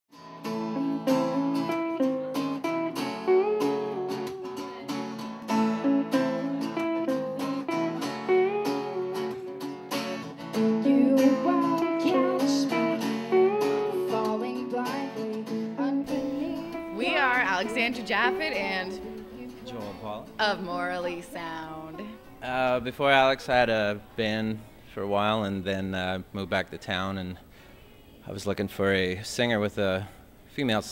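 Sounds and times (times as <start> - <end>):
acoustic guitars playing: 0.1 - 27.7.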